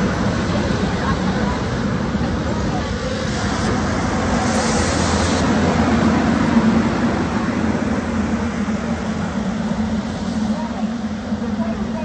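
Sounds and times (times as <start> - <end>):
train hum: 0.0 - 12.0
train wheels rumbling on rail: 0.0 - 12.0.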